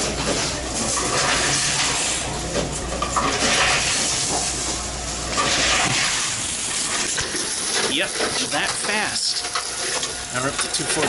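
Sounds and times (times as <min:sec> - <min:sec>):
vending machine whirring: 0:00.0 - 0:11.0.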